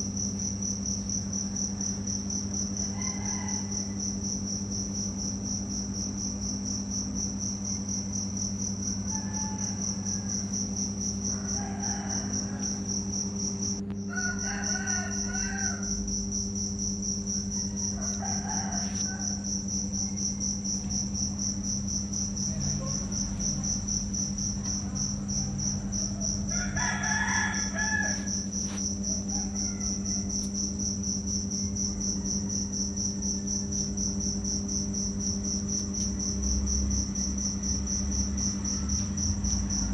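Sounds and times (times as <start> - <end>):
insect trill: 0.0 - 39.9
low steady hum: 0.0 - 39.9.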